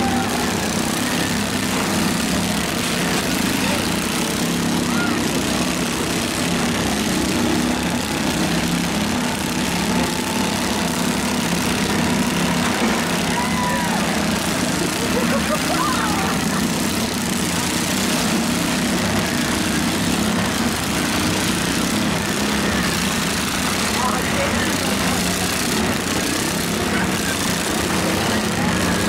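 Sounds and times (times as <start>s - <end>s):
small tractor engines droning: 0.0s - 29.0s.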